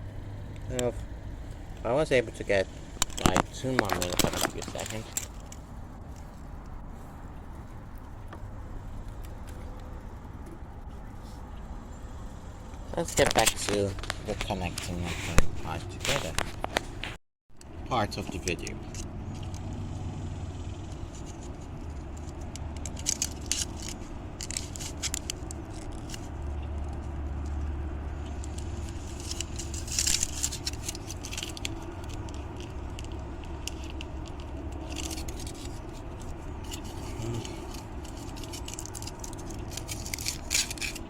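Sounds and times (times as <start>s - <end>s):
low background rumble: 0.0s - 41.0s
small parts clicking and scraping: 2.9s - 11.6s, 12.9s - 41.0s.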